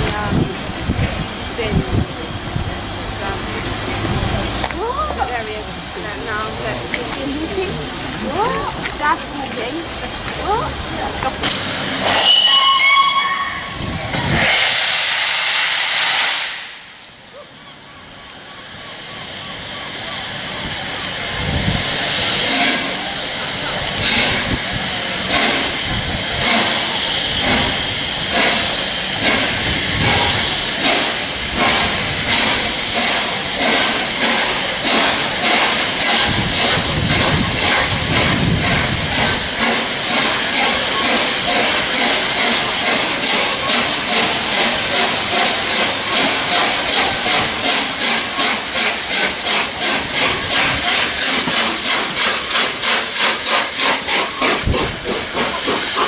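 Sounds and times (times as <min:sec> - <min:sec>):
steam locomotive exhaust chuffs: 0:00.0 - 0:17.3, 0:18.0 - 0:56.0
steady steam hiss: 0:00.0 - 0:56.0.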